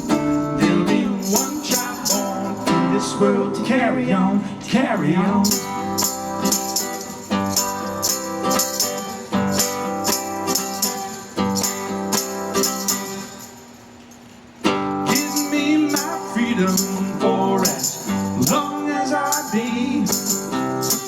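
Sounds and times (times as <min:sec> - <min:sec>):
tambourine jingling: 0:00.0 - 0:03.2, 0:05.0 - 0:21.0
strummed acoustic guitar: 0:00.0 - 0:21.0.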